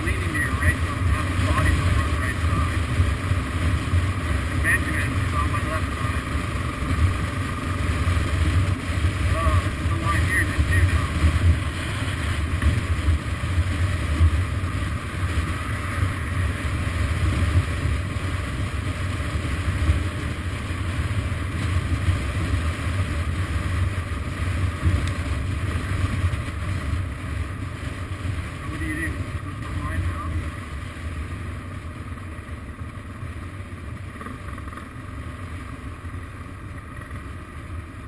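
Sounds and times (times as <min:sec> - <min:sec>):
wind rushing over microphone: 0:00.0 - 0:31.6
motorcycle engine cruising: 0:00.0 - 0:38.0.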